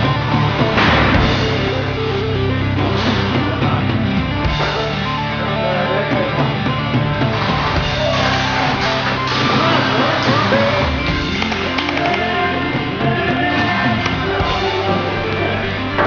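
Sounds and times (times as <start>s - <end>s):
rock music with distorted guitar: 0.0s - 16.0s.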